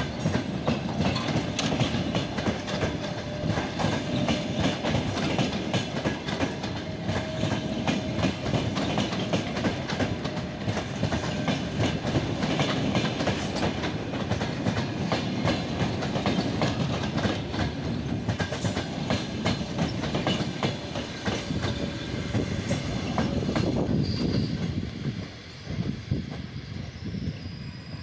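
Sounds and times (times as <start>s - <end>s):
train wheels clattering over rail joints: 0.0s - 26.5s.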